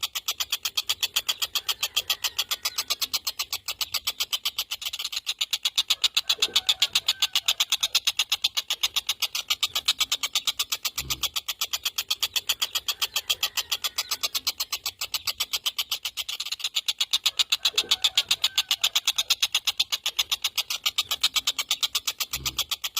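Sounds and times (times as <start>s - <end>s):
kingfisher chattering: 0.0s - 22.9s.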